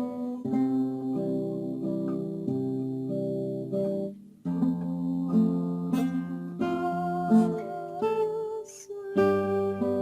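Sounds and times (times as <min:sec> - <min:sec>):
classical guitar playing: 0:00.0 - 0:10.0.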